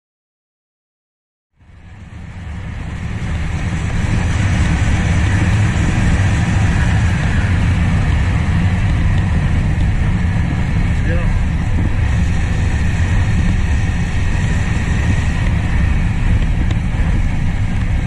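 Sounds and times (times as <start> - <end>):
motorcycle engine rumble: 1.6 - 18.0
wind rush on microphone: 1.6 - 18.0.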